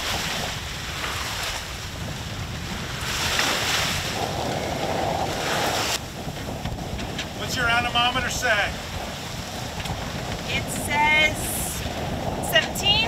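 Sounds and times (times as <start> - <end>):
water rushing past hull: 0.0 - 13.0
wind buffeting microphone: 0.0 - 13.0.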